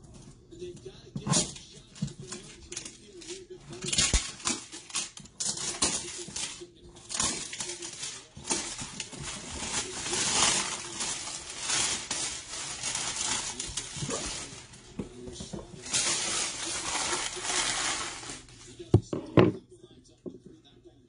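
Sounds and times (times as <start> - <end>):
plastic wrap crinkling: 1.4 - 19.0.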